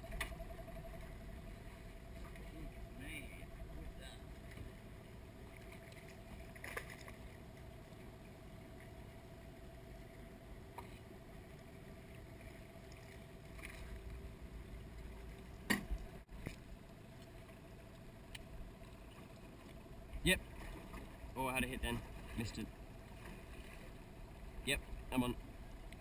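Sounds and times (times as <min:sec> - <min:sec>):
faint hum: 0:00.0 - 0:26.0
low steady rumble: 0:00.0 - 0:26.0.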